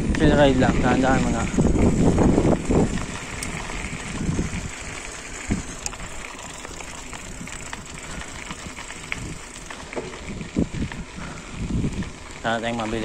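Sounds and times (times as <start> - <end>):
bicycle rolling: 0.0 - 13.0
bike ticks and rattles: 0.0 - 13.0.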